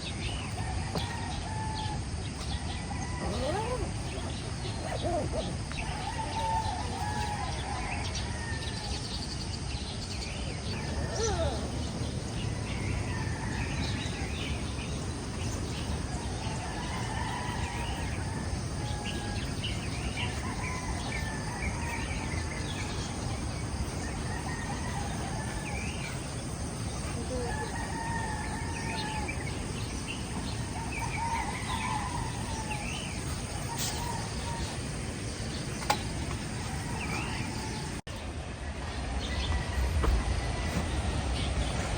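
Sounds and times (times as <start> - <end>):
roosters crowing: 0.0 - 9.7, 10.5 - 41.9.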